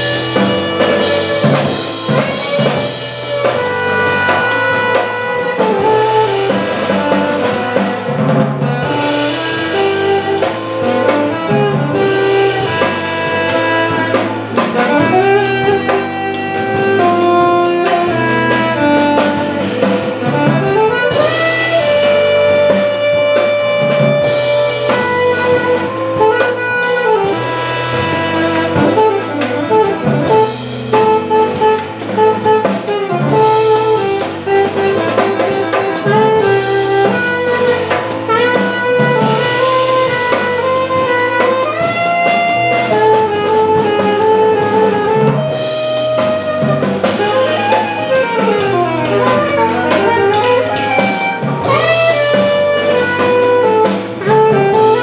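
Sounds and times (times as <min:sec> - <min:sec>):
drum kit with cymbals: 0:00.0 - 0:55.0
organ chords: 0:00.0 - 0:55.0
saxophone melody: 0:00.0 - 0:55.0.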